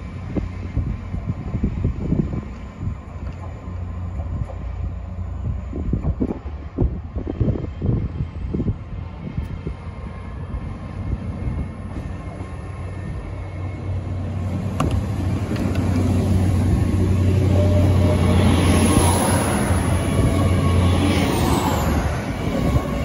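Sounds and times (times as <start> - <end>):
rush of train wheels and coaches: 0.0 - 23.0
train engine hum: 0.0 - 23.0.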